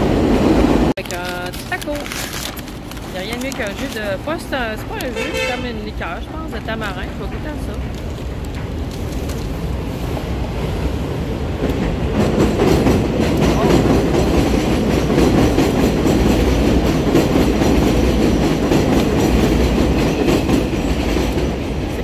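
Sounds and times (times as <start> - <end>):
elevated train wheels on rails: 0.0 - 22.0.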